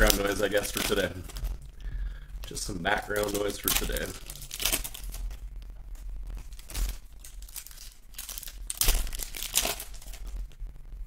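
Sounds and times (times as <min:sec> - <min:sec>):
foil packs tearing and crinkling: 0:00.0 - 0:10.6
steady low hum: 0:00.0 - 0:11.0.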